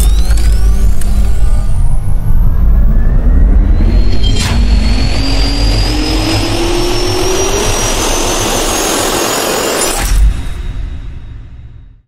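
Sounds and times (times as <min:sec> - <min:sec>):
jet turbine spooling up: 0:00.0 - 0:10.2.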